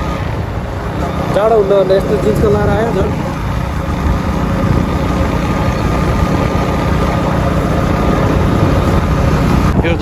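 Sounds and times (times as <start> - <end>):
motorbike engine droning: 0.0 - 10.0.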